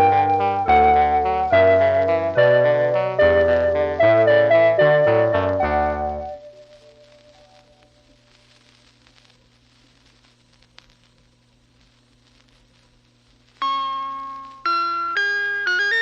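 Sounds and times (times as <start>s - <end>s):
faint low hum and hiss: 0.0s - 16.0s.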